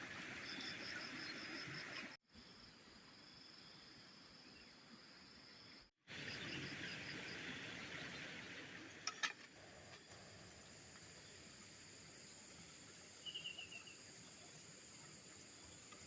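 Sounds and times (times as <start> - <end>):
insects chirping: 0.2 - 16.0.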